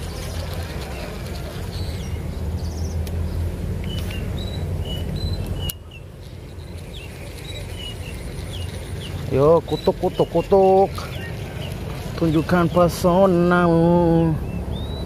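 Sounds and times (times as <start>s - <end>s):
low steady rumble: 0.0s - 15.0s
small birds chirping: 0.7s - 15.0s.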